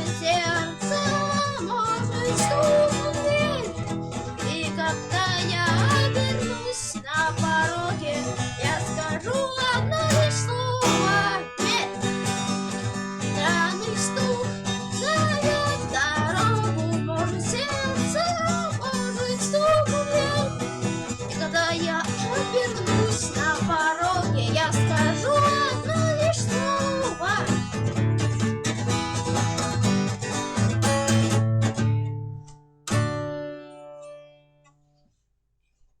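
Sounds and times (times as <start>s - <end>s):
guitar chords and melody: 0.0s - 35.0s.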